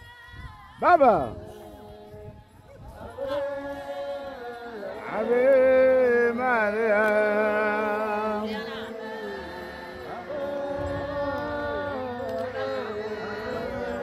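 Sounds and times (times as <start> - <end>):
group singing a hymn: 1.0 - 14.0.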